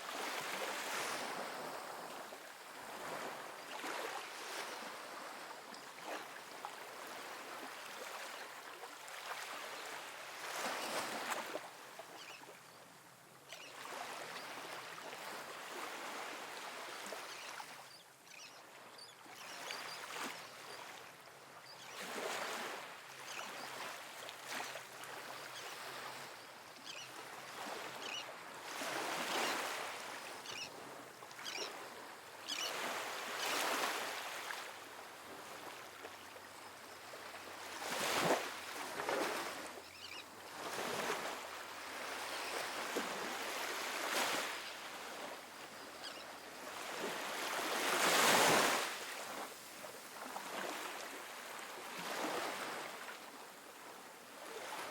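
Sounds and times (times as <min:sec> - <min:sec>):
small waves breaking on beach: 0:00.0 - 0:54.9.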